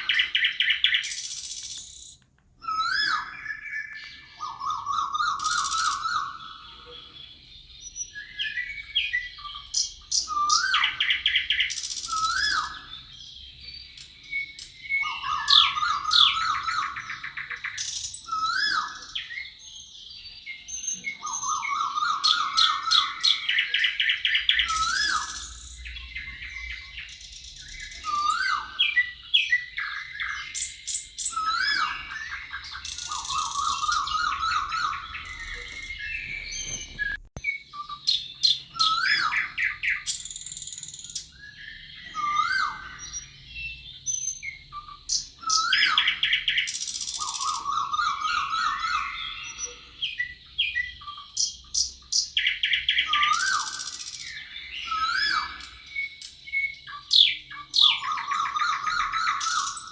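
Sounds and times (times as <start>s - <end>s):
birds singing: 0.0s - 59.9s.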